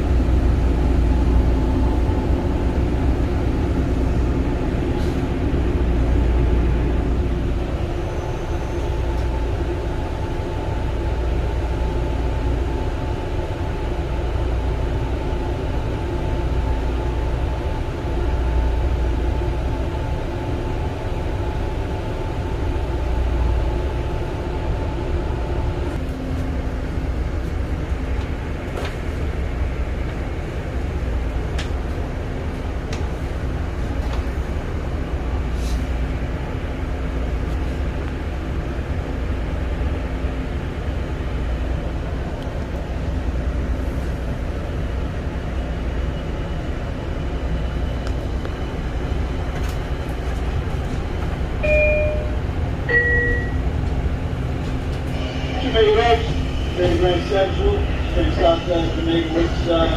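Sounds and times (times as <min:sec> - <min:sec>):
electric railcar rumbling: 0:00.0 - 0:59.9.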